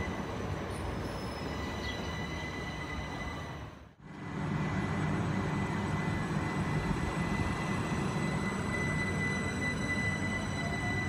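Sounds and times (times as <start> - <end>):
electric train rumble: 0.0 - 11.0
low train rumble close by: 0.0 - 11.0.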